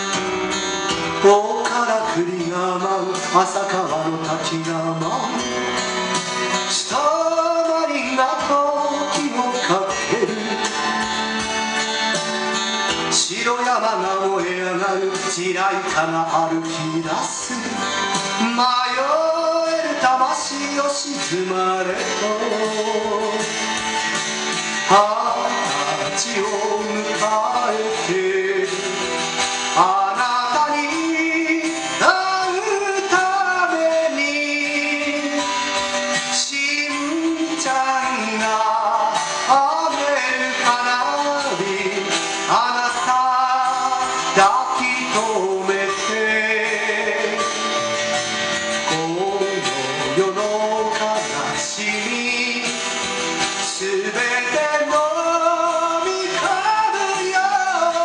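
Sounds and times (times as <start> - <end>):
man singing: 0.0 - 58.0
strummed acoustic guitar: 0.0 - 58.0.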